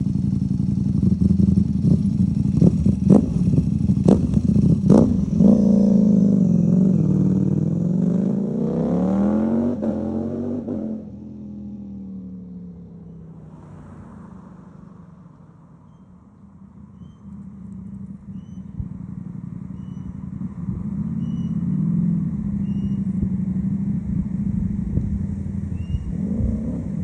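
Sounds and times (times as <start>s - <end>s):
motorcycle engine revving: 0.0s - 15.2s, 17.0s - 27.0s.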